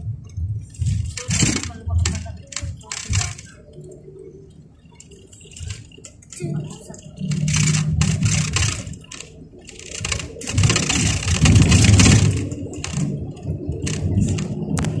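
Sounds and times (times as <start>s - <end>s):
engine and road rumble: 0.0s - 15.0s
rattling and clatter inside vehicle: 0.0s - 15.0s.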